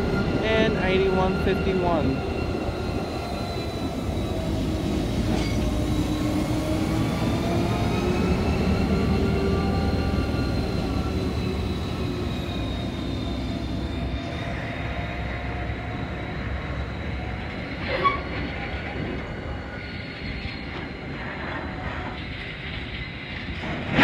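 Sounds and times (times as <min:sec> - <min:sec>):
diesel locomotive engine: 0:00.0 - 0:24.0
rumble of wheels on rails: 0:00.0 - 0:24.0.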